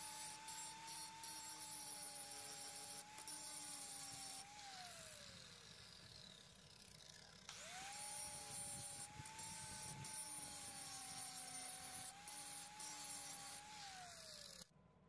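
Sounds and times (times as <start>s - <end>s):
angle grinder whining: 0.0s - 14.7s.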